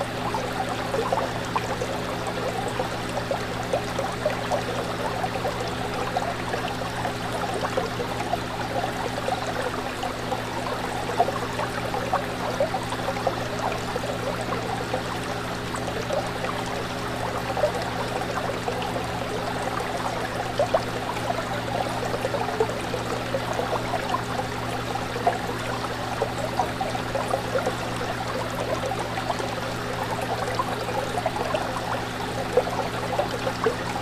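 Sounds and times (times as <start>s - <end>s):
fish tank water bubbling: 0.0s - 34.0s.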